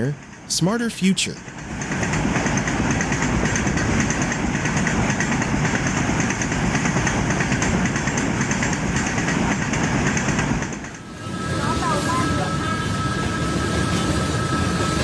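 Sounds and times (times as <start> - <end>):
train engine rumble: 0.0 - 15.0.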